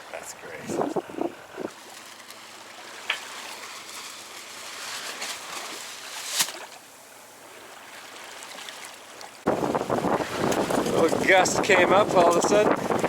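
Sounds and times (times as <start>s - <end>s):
water rushing along a hull: 0.0s - 13.0s.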